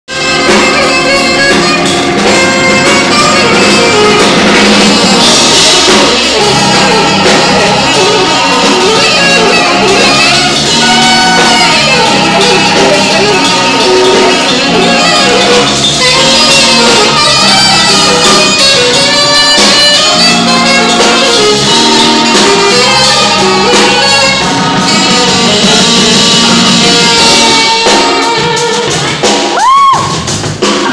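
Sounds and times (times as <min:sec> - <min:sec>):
saxophone: 0:00.0 - 0:30.9
trombone: 0:00.1 - 0:29.3
drum kit: 0:00.1 - 0:30.9
keyboard: 0:00.1 - 0:30.9.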